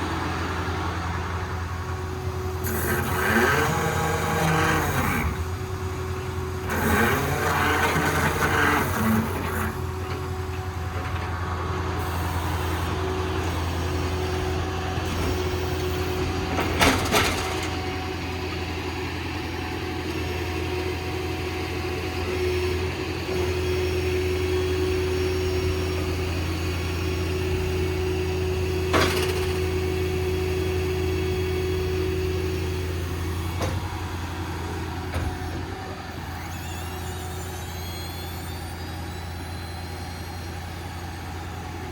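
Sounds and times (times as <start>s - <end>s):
diesel engine running: 0.0s - 41.9s
hydraulic whine: 0.0s - 41.9s.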